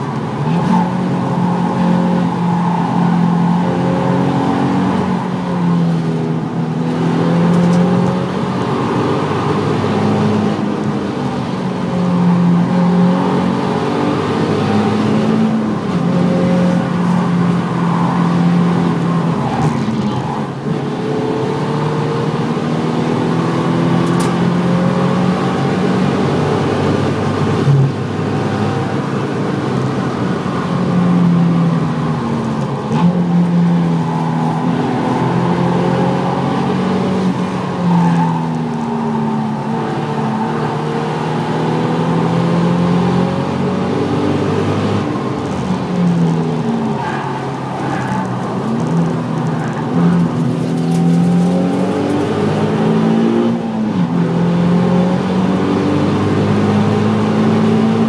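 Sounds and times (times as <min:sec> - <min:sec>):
car engine revving: 0:00.0 - 0:58.0
tyre and road noise: 0:00.0 - 0:58.0.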